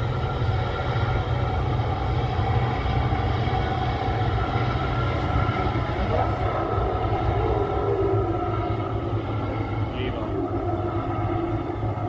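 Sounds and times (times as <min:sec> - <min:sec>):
boat diesel engine droning: 0:00.0 - 0:12.0.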